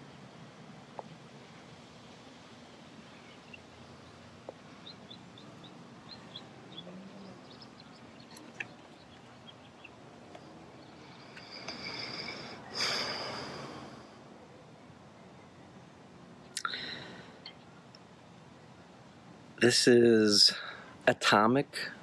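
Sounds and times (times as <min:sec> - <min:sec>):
faint birds chirping: 0:00.0 - 0:22.0
steady background hiss: 0:00.0 - 0:22.0.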